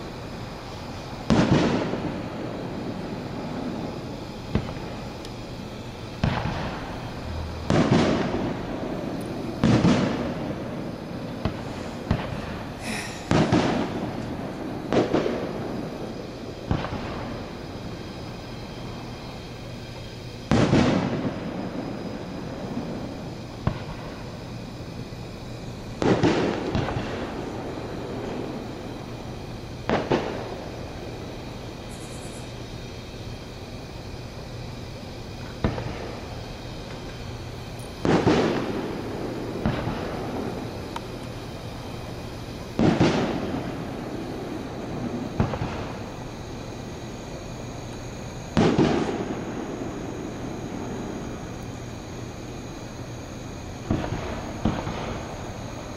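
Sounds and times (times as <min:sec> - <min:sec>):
fireworks shells bursting: 0:00.0 - 0:55.9.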